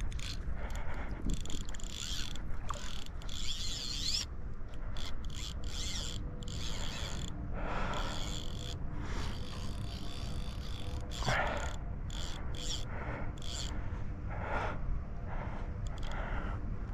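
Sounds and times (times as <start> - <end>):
fishing reel drag ratcheting: 0.0 - 13.8, 15.8 - 16.3.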